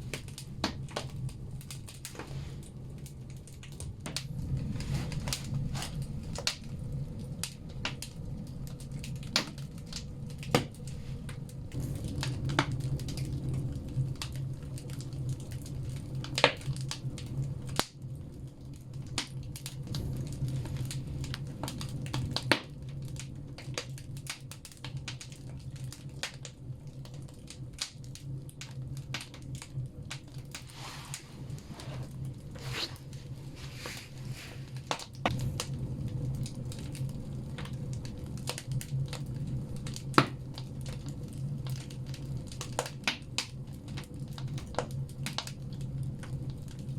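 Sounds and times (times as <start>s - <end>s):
logs crackling in wood stove: 0.0s - 46.9s
low steady rumble: 0.0s - 46.9s.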